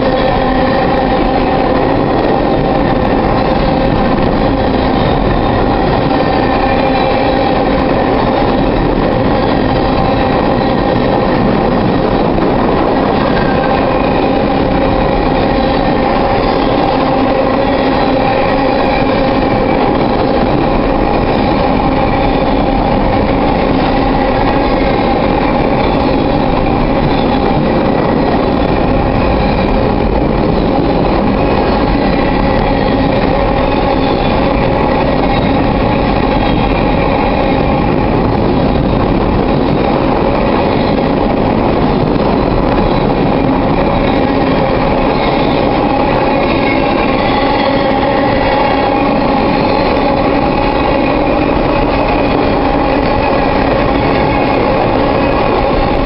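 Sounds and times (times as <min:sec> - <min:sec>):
freight train wheels clattering on rails: 0:00.0 - 0:56.0.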